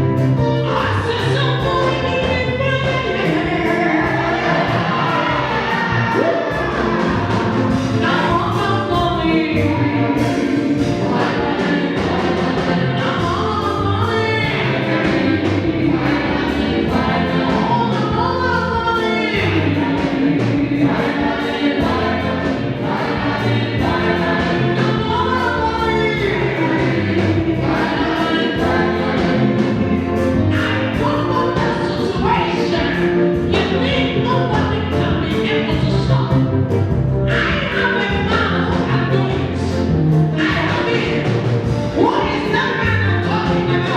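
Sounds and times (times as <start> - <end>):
gospel choir singing over a beat: 0.0 - 43.9.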